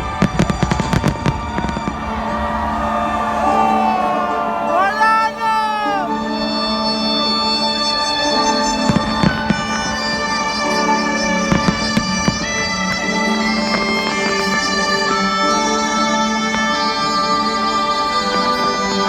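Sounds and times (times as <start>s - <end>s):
firework bangs: 0.0s - 5.2s, 6.2s - 19.0s
music with long held notes: 0.0s - 19.0s.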